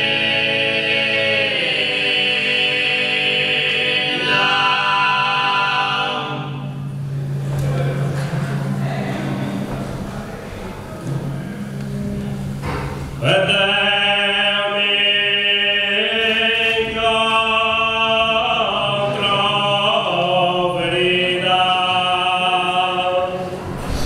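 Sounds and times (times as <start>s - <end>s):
male voices singing polyphony: 0.0s - 12.0s, 13.2s - 24.0s.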